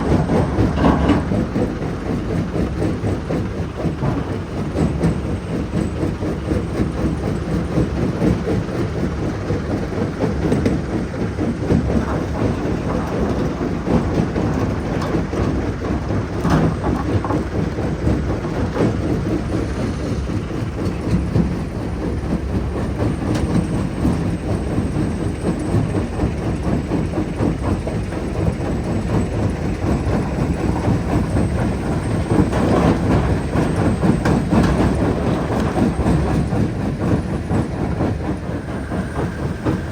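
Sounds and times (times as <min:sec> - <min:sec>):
rock crusher rumbling: 0:00.0 - 0:08.4, 0:09.7 - 0:26.0, 0:28.2 - 0:39.9.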